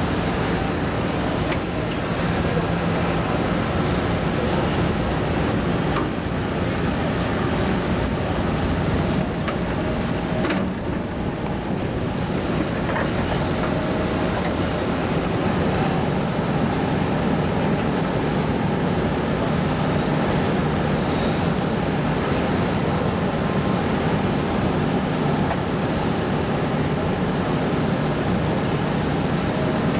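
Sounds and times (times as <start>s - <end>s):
excavator engine and hydraulics: 0.0s - 29.9s.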